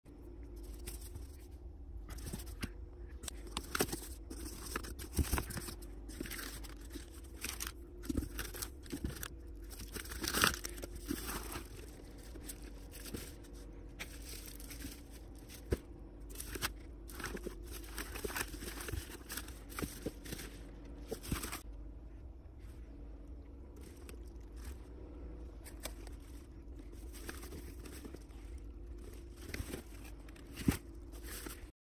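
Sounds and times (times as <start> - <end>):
steady low hum: 0.1 - 31.7
plastic crinkling: 2.1 - 21.6, 25.5 - 31.7.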